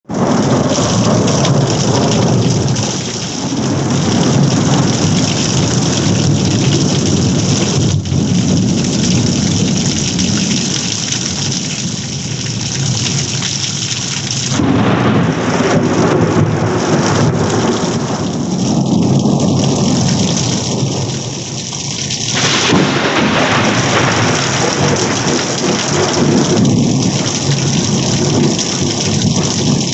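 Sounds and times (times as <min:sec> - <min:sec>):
heavy rain pouring: 0:00.0 - 0:29.9
thunder rumbling: 0:00.0 - 0:29.9.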